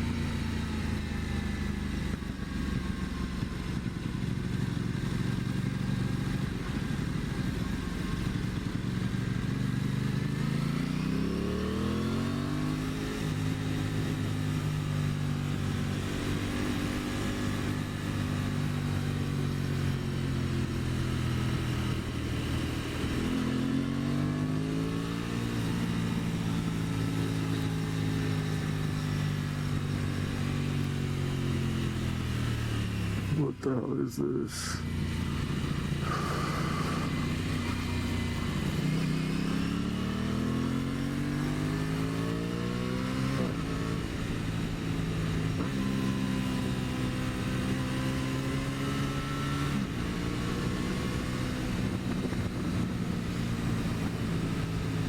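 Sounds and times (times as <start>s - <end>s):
motorcycle engine accelerating: 0.0s - 33.6s, 34.5s - 55.0s.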